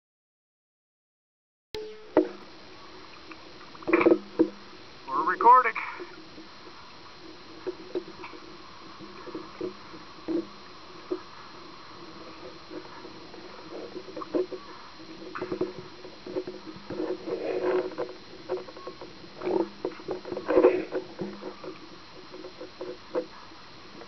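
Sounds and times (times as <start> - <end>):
muffled water splashes and knocks: 3.1 - 4.8, 6.2 - 24.0.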